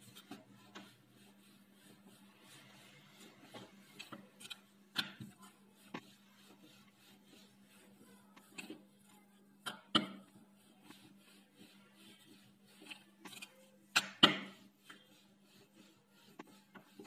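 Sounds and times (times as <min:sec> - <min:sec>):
rolling pin rubbing dough: 0:00.0 - 0:17.0.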